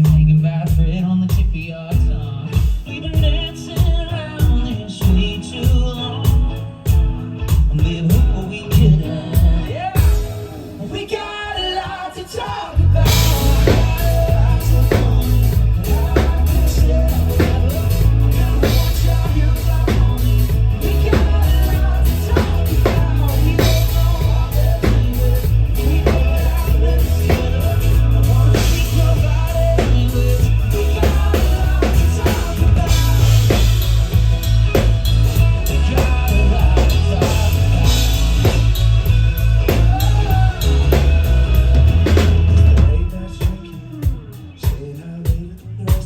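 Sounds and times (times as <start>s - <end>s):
band playing a song: 0.0s - 46.0s
drum kit beat: 0.0s - 46.0s
heavy bass: 0.0s - 46.0s.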